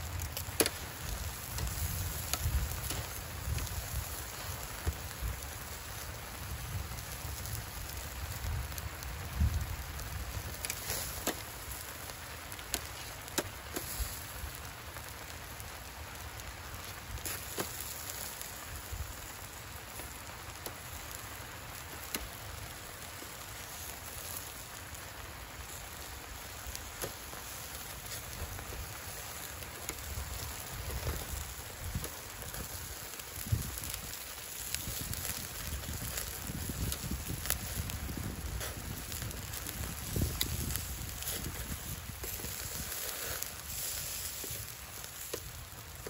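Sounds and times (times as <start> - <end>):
meat sizzling on charcoal grill: 0.0 - 46.0.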